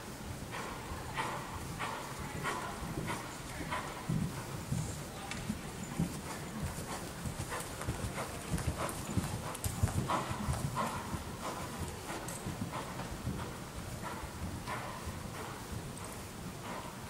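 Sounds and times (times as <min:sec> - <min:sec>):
horse hoofbeats on soft footing: 0:00.5 - 0:17.0.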